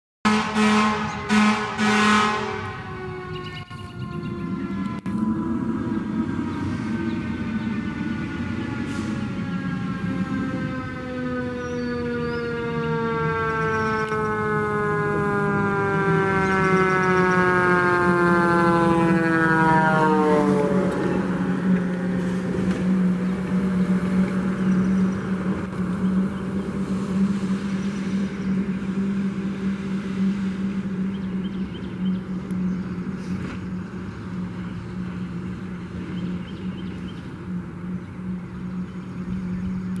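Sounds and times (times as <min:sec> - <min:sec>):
diesel truck engine rumbling: 0:00.2 - 0:40.0.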